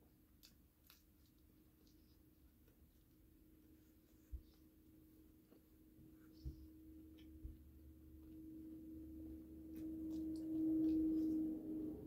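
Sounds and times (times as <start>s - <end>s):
low hum: 0.9s - 12.0s.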